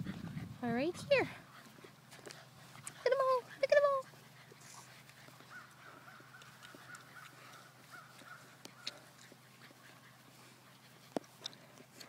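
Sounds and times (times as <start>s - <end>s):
puppies rustling in grass: 0.0s - 12.0s.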